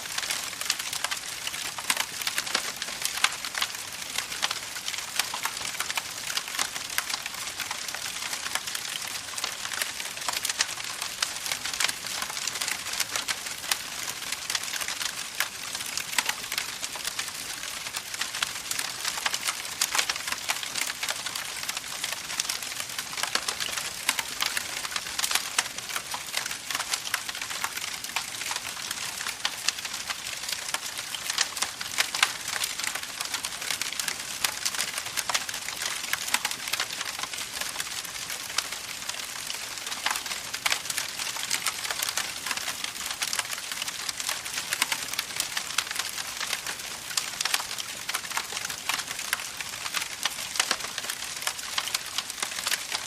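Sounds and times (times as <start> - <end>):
campfire crackling: 0.1 - 53.0.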